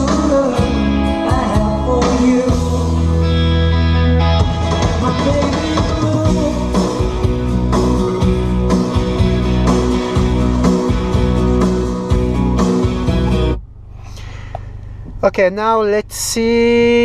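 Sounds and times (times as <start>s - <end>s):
rock song through car speakers: 0.0s - 15.2s.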